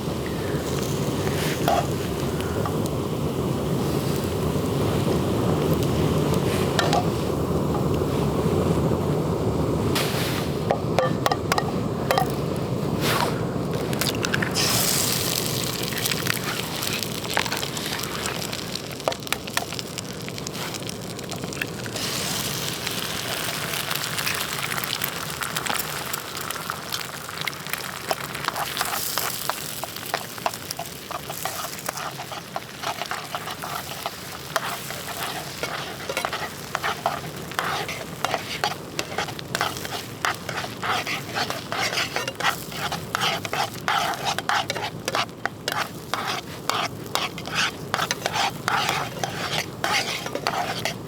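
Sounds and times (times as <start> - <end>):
food sizzling in a frying pan: 0.0 - 9.0, 9.7 - 51.0.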